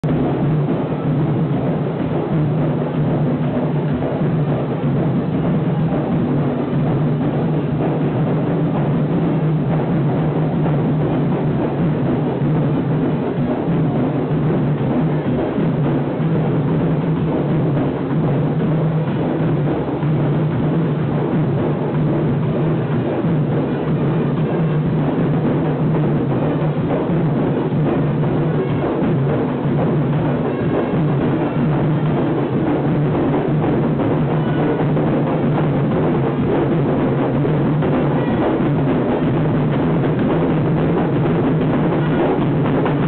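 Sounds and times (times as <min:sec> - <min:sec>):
hand drums playing rhythm: 0:00.0 - 0:43.0.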